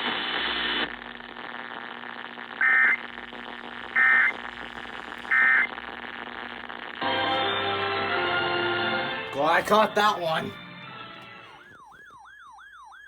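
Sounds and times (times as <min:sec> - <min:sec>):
steady radio hiss: 0:00.0 - 0:10.7.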